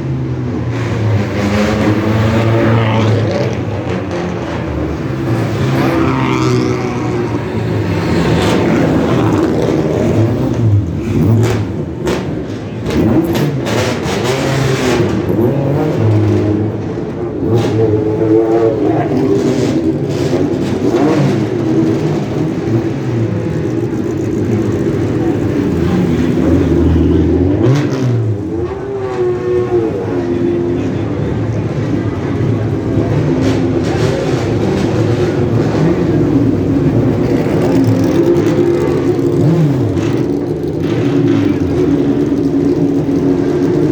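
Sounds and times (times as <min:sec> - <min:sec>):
sports car engines revving: 0:00.0 - 0:43.9.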